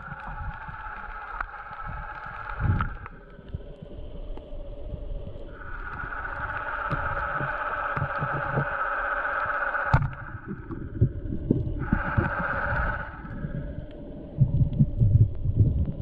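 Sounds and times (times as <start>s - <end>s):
steady underwater whine: 0.0s - 16.0s.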